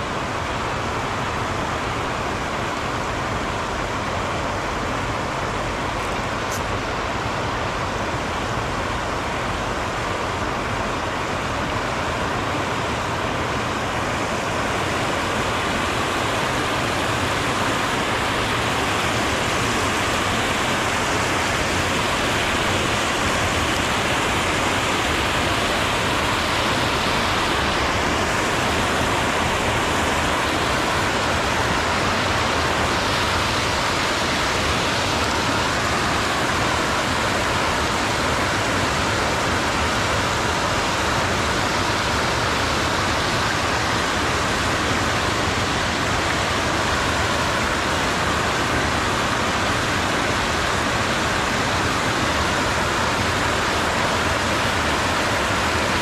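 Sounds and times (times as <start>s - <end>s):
water rushing over a weir: 0.0s - 56.0s.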